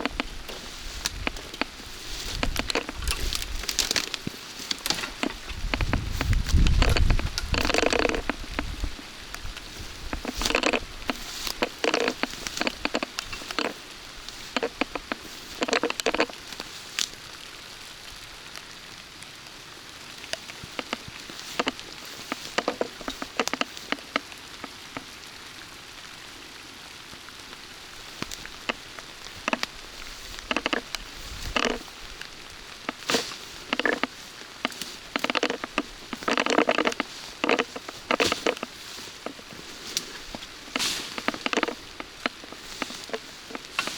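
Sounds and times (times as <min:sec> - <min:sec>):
sharp close taps and crackles: 0:00.0 - 0:17.2, 0:20.2 - 0:25.1, 0:28.1 - 0:43.9
steady rain: 0:00.0 - 0:43.9.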